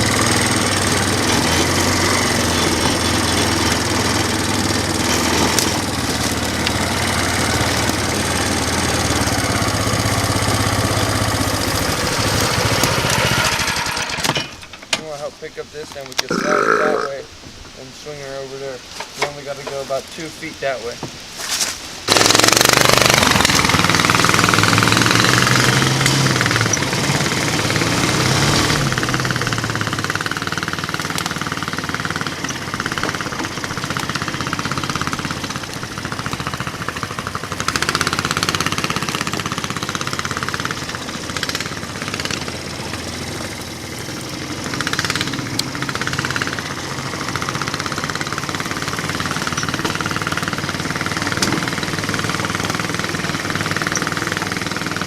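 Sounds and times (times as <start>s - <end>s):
small engine revving: 0.0s - 14.7s, 22.1s - 55.0s.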